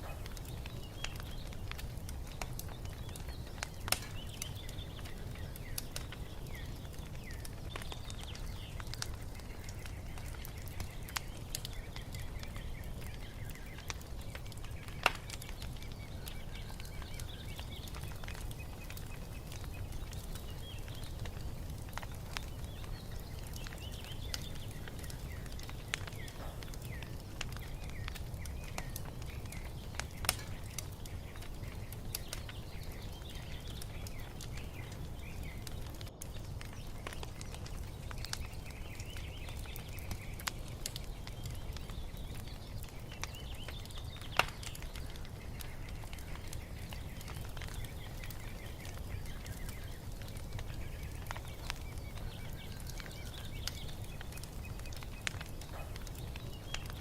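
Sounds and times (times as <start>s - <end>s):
songbirds chirping: 0.0s - 57.0s
wood fire crackling and popping: 0.0s - 57.0s.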